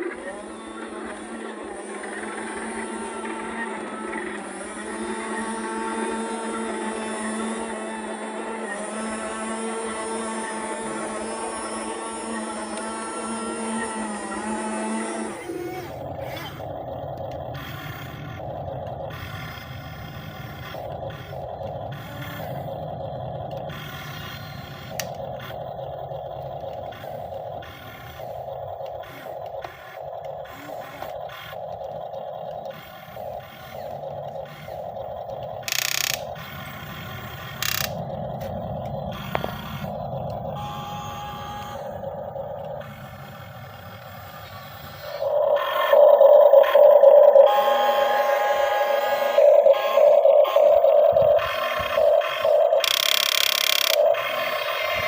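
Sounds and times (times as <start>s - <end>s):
excavator motor whine: 0.0s - 55.0s
steady low hum: 0.0s - 55.0s.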